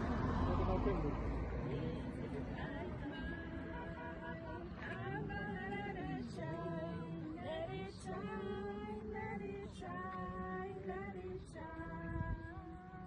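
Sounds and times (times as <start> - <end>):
women and children singing: 1.3 - 13.0.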